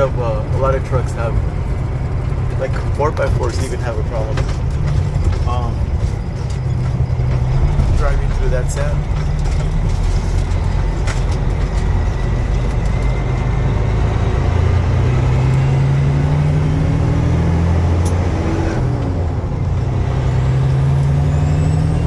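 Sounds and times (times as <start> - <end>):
road noise: 0.0 - 22.0
truck diesel engine running: 0.0 - 22.0.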